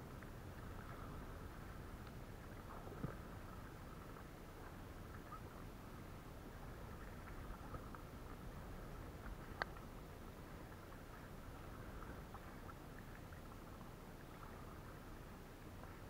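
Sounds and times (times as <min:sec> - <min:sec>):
water lapping around kayak: 0:00.0 - 0:16.0.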